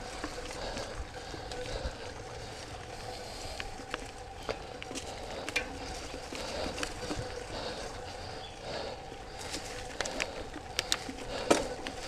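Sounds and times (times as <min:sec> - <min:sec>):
bike clicks and rattles: 0:00.0 - 0:12.0
bike tyres on dirt trail: 0:00.0 - 0:12.0
steady hum: 0:00.0 - 0:12.0.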